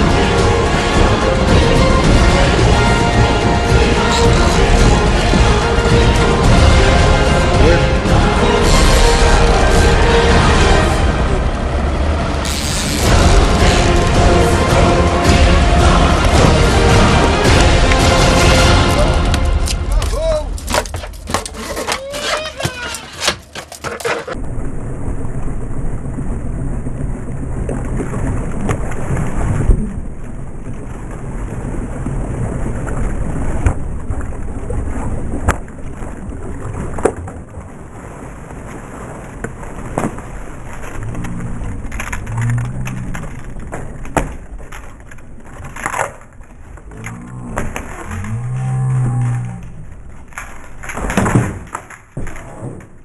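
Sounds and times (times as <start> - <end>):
boat low rumbling: 0.0 - 50.9.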